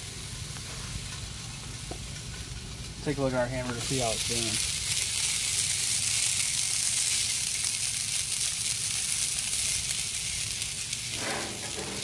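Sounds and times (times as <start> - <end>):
burger patty sizzling on griddle: 0.0 - 12.0.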